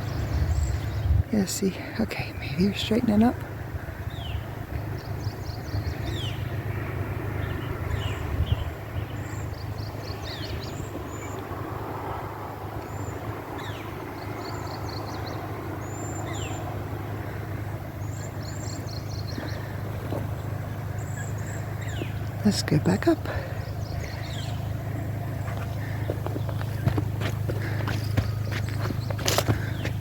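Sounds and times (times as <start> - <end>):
songbirds singing: 0.0 - 30.0
steady low rumble: 0.0 - 30.0.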